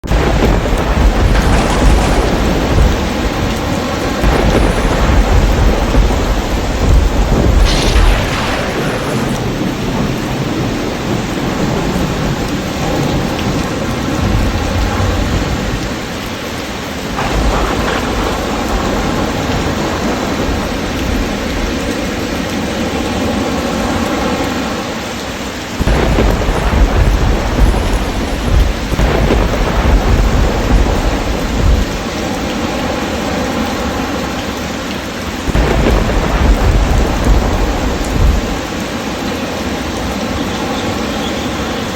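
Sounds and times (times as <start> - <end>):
thunder rumbling: 0.0 - 24.9, 25.6 - 41.9
rain hissing: 0.0 - 41.9.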